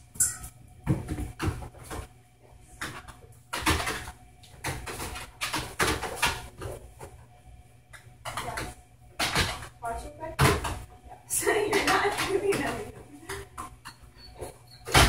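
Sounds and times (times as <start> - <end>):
dog paws thumping on treadmill: 0.8 - 7.3, 7.9 - 15.0.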